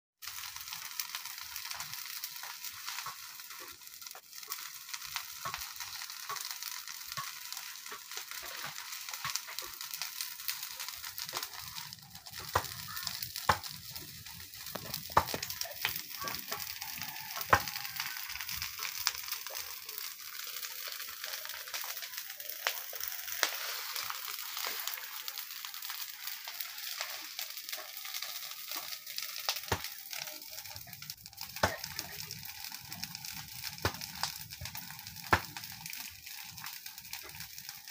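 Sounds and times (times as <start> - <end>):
brush fire crackling: 0.2 - 37.9
sharp pops of fire: 0.2 - 37.9.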